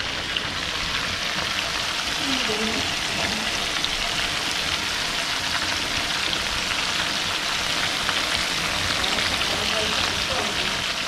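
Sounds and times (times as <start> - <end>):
shrimp sizzling in hot oil: 0.0 - 11.0.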